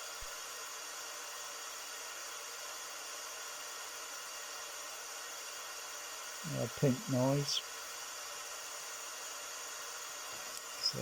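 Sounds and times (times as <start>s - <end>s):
pink noise hiss through loudspeakers: 0.0s - 11.0s.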